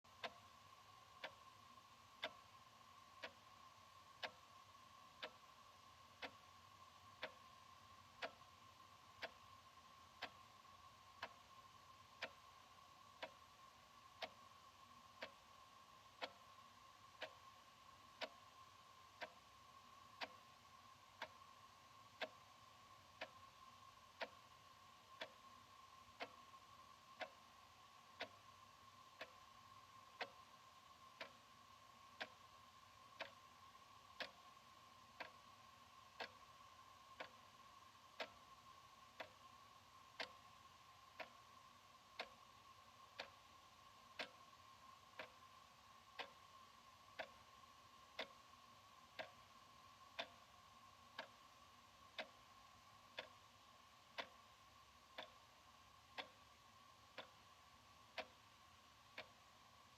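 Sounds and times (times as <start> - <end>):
faint steady tone: 0.0 - 59.9
wall clock ticking: 0.1 - 59.9.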